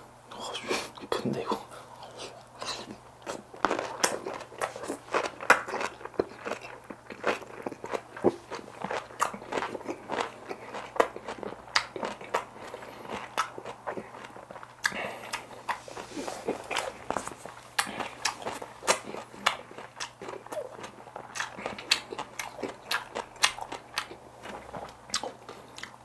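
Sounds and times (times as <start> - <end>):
person chewing crunchy food: 0.4 - 26.0.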